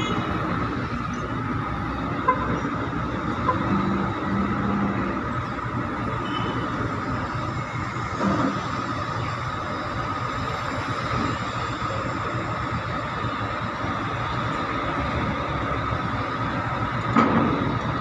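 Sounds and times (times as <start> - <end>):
constant machine whine: 0.0 - 18.0
diesel engines running: 0.0 - 18.0.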